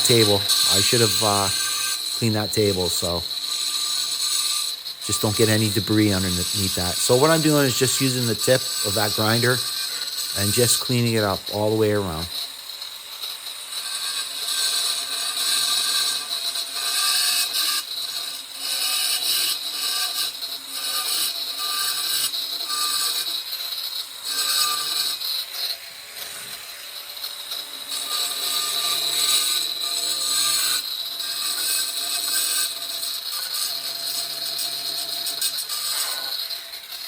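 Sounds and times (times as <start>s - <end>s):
angle grinder grinding stone tile: 0.0s - 37.0s.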